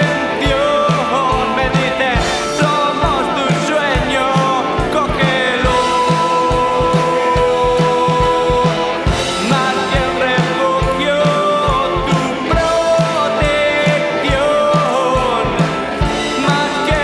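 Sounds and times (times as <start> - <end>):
guitar: 0.0 - 17.0
person singing long notes: 0.0 - 17.0
steady drum beat: 0.0 - 17.0.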